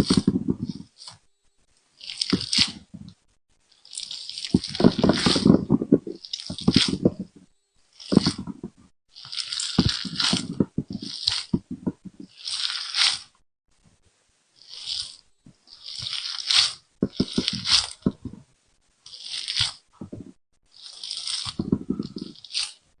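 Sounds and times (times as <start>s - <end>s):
jelly squishing and popping: 2.0s - 3.2s, 3.8s - 13.3s, 14.6s - 18.5s, 19.1s - 22.9s.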